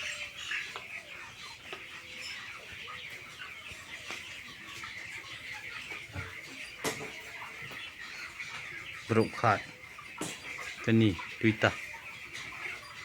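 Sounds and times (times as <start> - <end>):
chickens peeping: 0.0 - 13.0.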